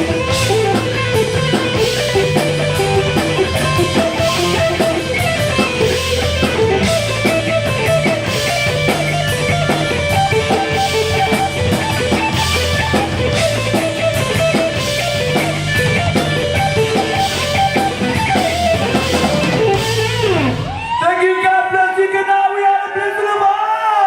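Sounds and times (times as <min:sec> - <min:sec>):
heavy metal band playing: 0:00.0 - 0:22.1.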